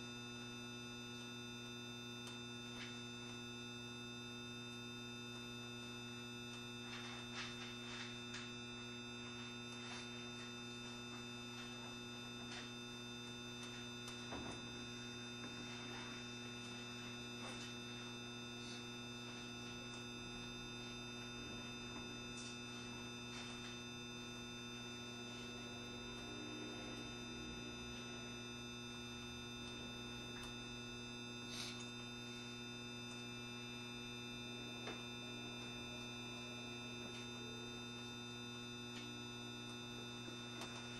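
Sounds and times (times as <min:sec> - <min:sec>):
electric train hum and whine: 0:00.0 - 0:40.9.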